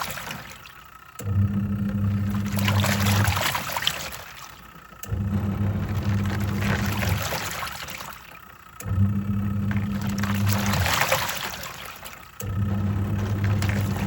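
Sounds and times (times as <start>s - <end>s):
washing machine motor humming: 0.0s - 14.0s
water and clothes sloshing: 0.0s - 14.0s.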